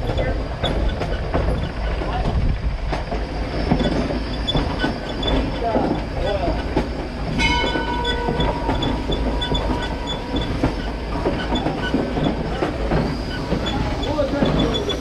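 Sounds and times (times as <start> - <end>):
train wheels rumbling on track: 0.0 - 15.0
wheels clicking over rail joints: 0.0 - 15.0.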